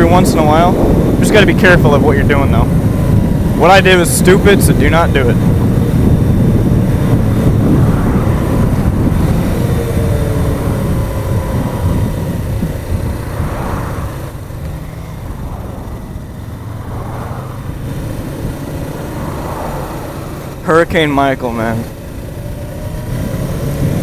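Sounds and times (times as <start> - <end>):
motorcycle engine rumble: 0.0 - 24.0
wind rushing over microphone: 0.0 - 24.0.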